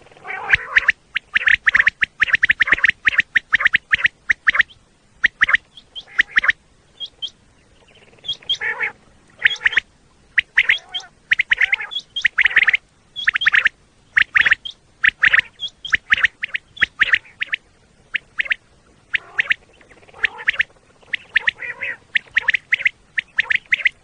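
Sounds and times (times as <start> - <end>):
quail calling: 0.1 - 24.0.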